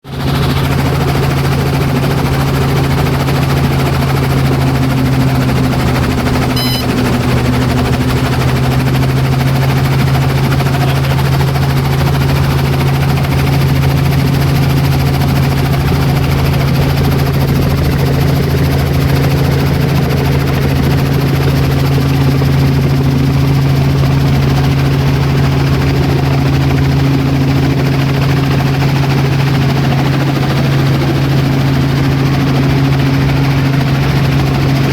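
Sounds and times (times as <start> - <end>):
helicopter drone: 0.0 - 34.9.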